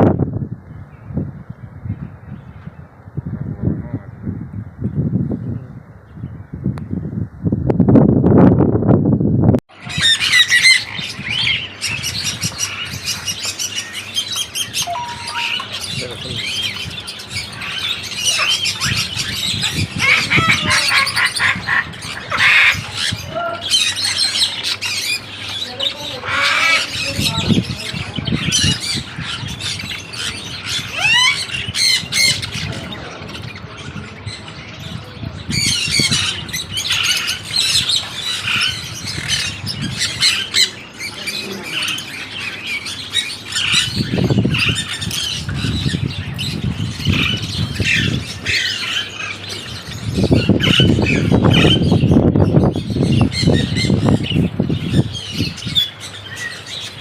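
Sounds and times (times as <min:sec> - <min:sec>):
birds calling: 0:09.7 - 0:57.0.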